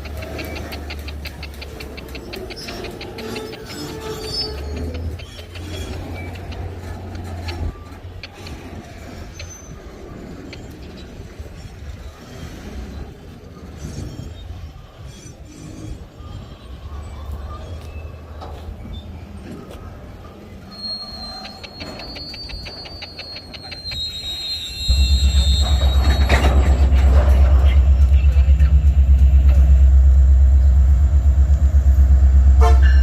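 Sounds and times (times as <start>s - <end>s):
high wheel squeal: 0.0s - 12.7s, 13.7s - 19.4s, 20.2s - 29.6s, 31.0s - 33.0s
freight train wagons rumbling: 0.0s - 33.0s.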